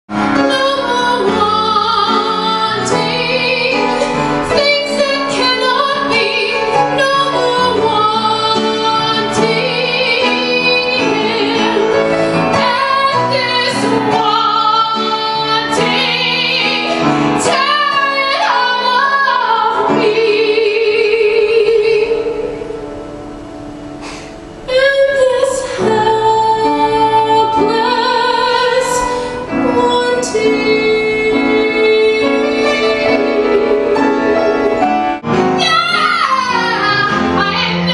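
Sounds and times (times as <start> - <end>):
piano accompaniment: 0.1 - 37.9
woman singing: 0.3 - 22.8, 24.7 - 35.0, 35.6 - 37.9.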